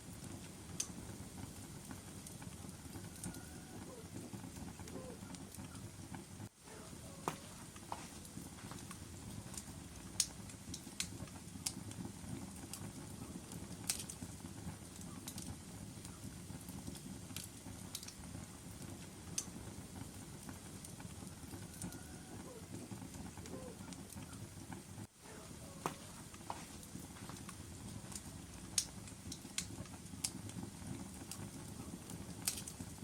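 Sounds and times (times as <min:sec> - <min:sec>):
logs crackling and popping: 0:00.0 - 0:33.0
low rumble of flames: 0:00.0 - 0:33.0.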